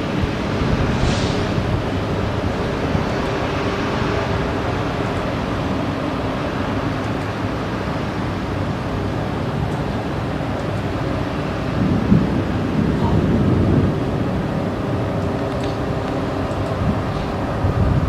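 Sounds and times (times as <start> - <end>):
rushing storm noise: 0.0 - 18.0.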